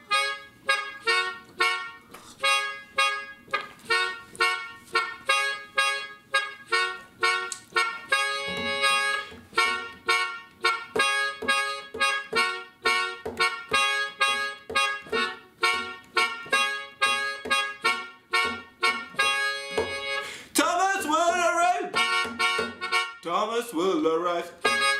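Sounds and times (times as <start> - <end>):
melodica staccato chords: 0.0 - 23.5, 24.6 - 24.9.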